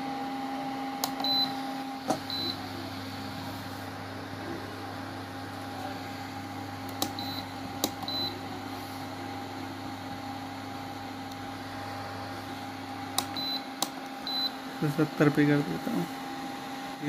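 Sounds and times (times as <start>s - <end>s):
cooling fan hum: 0.0s - 17.0s.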